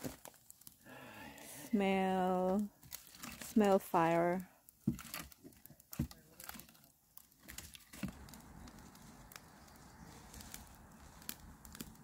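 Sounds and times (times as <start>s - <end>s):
campfire crackling: 0.0s - 12.0s
fire pops and snaps: 0.0s - 12.0s.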